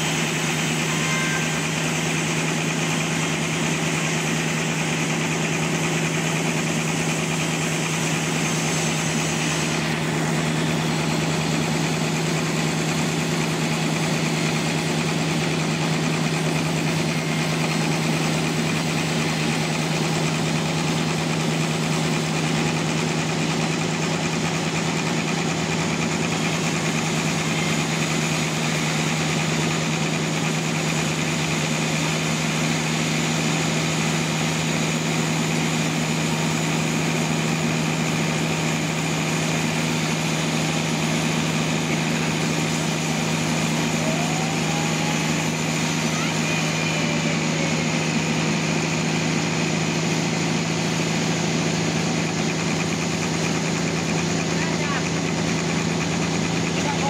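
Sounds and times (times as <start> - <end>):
sawmill engine droning: 0.0 - 57.0.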